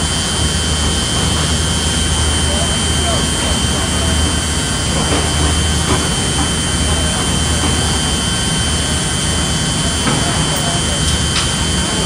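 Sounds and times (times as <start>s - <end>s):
heavy machinery rumbling: 0.0s - 12.0s.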